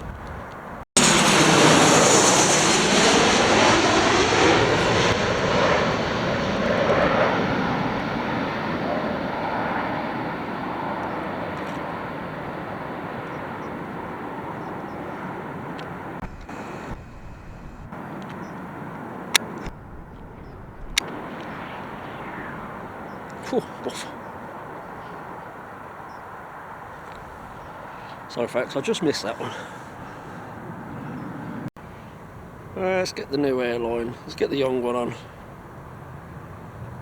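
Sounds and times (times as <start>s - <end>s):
jet airliner passing: 0.0s - 37.0s.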